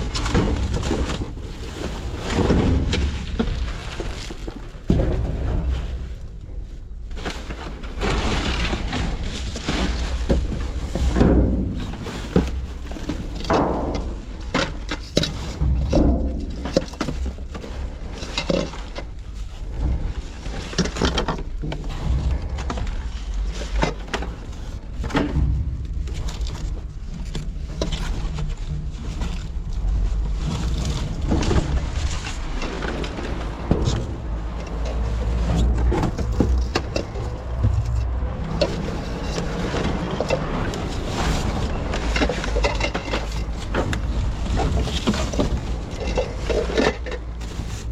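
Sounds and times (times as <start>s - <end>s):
knocks and clatters of items: 0.0s - 47.9s
steady low rumble: 0.0s - 47.9s.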